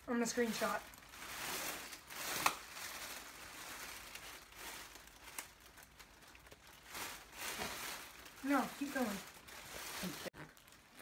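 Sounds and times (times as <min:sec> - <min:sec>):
sharp plastic crackle: 0:00.0 - 0:11.0
plastic air-pillow packaging crinkling: 0:00.2 - 0:11.0.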